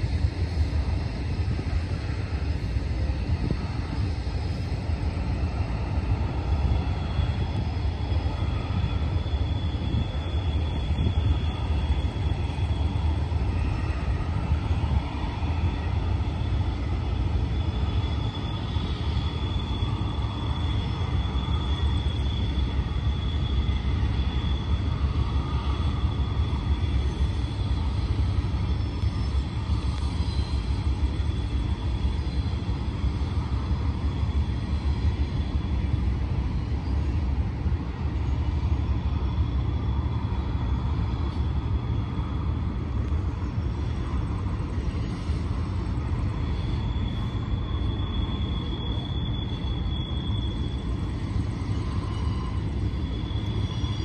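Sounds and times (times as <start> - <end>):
distant freight train rumble: 0.0 - 54.0.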